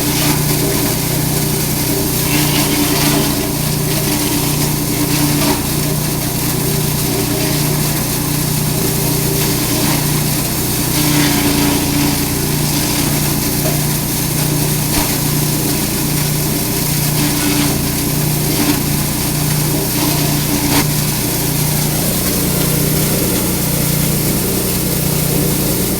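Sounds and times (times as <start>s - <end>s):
grass chopper motor humming: 0.0s - 25.9s.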